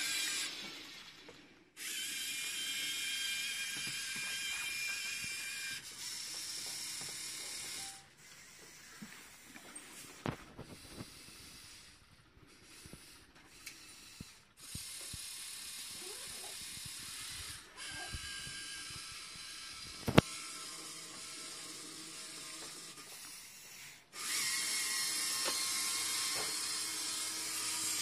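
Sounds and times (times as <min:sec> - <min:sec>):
motors and gears whirring: 0:00.0 - 0:28.0.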